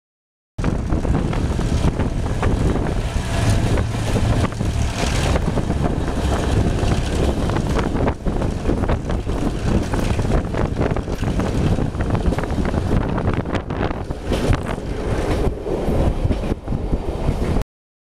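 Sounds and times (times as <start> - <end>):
train clicks and rattles: 0.6 - 17.6
train wheels rumbling: 0.6 - 17.6
wind buffeting microphone: 0.6 - 17.6.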